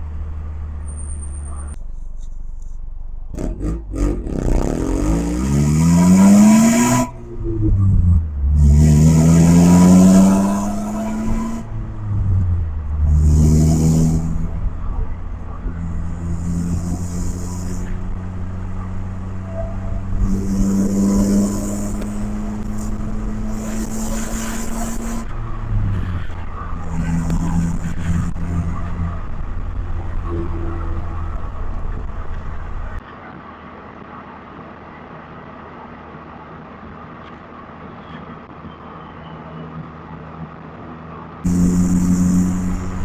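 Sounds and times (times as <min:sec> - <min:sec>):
car engine accelerating: 0:00.0 - 0:33.0, 0:41.4 - 0:43.0.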